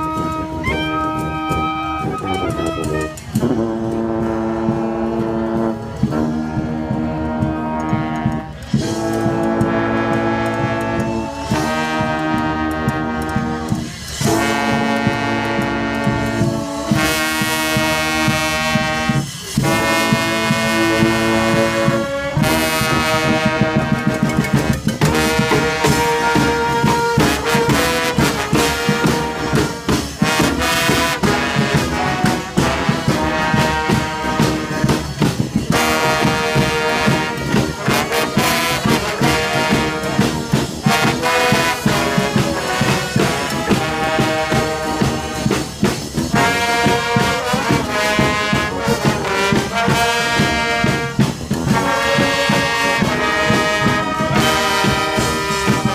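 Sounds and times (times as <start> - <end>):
brass band playing: 0.0 - 55.9.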